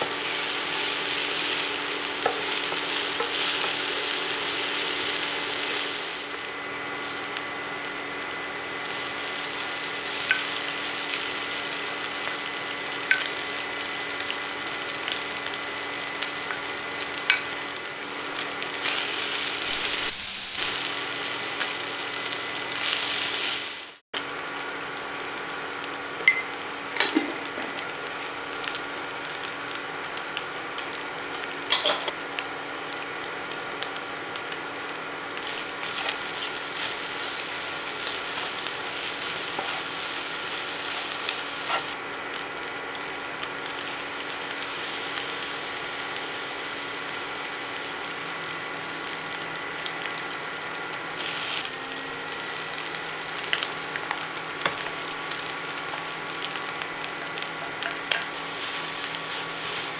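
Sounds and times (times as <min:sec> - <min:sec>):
fish and onion sizzling in oil: 0:00.0 - 0:59.9.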